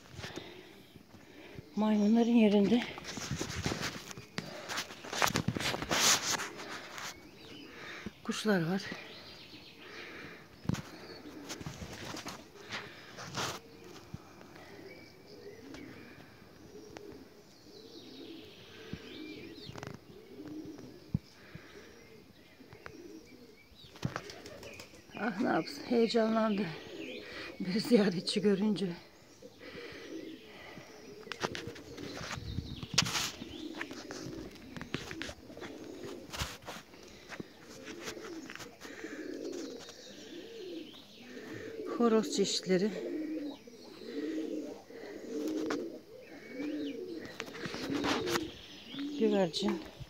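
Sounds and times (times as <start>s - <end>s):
pigeons cooing: 0.0s - 50.0s
small birds chirping: 0.0s - 50.0s.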